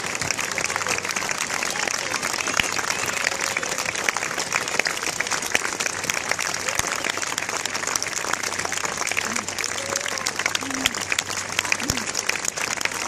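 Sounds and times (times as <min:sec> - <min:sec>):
crowd applauding: 0:00.0 - 0:13.0
voices: 0:00.0 - 0:13.0.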